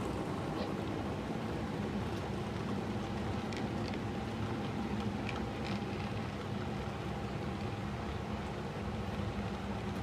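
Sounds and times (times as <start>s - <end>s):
model train cars rumbling: 0.0s - 10.0s
wheels clicking on track: 0.0s - 10.0s.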